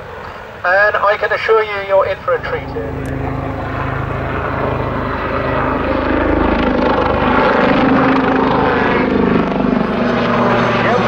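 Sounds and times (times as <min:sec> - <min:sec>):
helicopter rotor and engine drone: 0:00.0 - 0:11.0.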